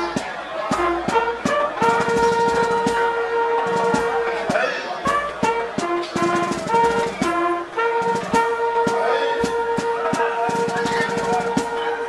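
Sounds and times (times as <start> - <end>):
drum beats: 0.0 - 12.0
military band playing a march: 0.0 - 12.0.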